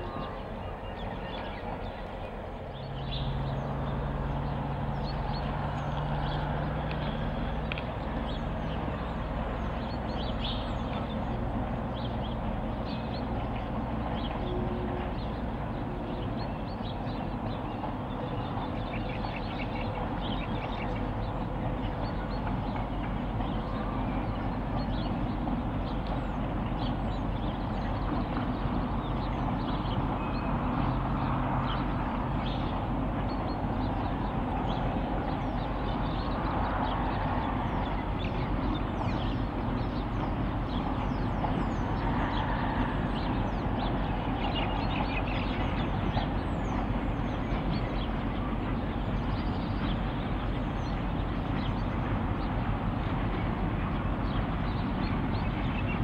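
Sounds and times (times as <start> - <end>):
birds chirping: 0.0 - 56.0
diesel locomotives droning: 0.0 - 56.0.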